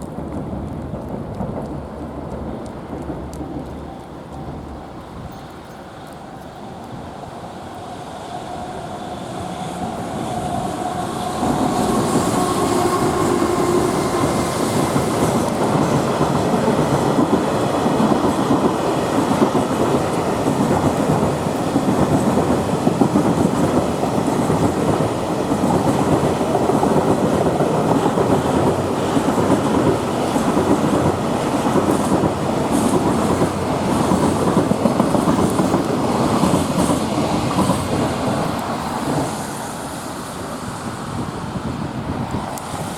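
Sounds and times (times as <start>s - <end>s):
freight train passing: 0.0s - 42.9s.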